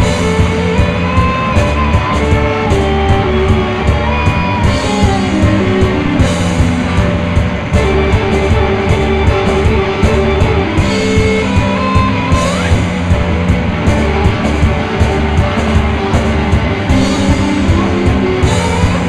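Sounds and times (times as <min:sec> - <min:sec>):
drum kit beat: 0:00.0 - 0:19.0
electric guitars: 0:00.0 - 0:19.0.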